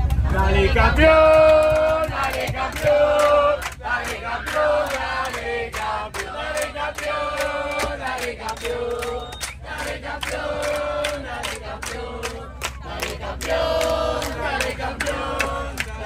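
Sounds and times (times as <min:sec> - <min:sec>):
crowd singing a chant: 0:00.2 - 0:16.0.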